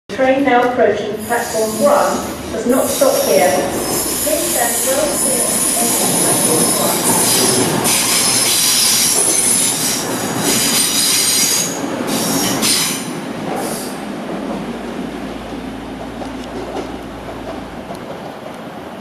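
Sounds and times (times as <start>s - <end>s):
diesel train rumble: 0.5s - 19.0s.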